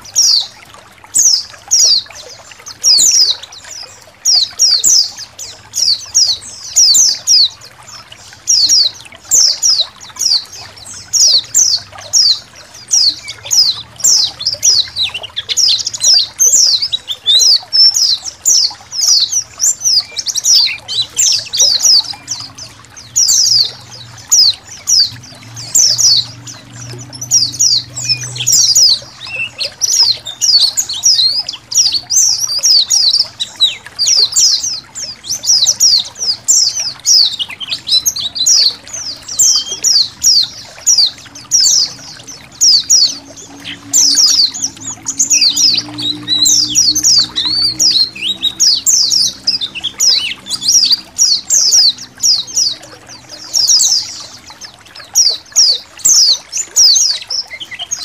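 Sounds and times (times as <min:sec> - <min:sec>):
faint trickle of water: 0:00.0 - 0:58.0
flock of birds chirping: 0:00.0 - 0:58.0.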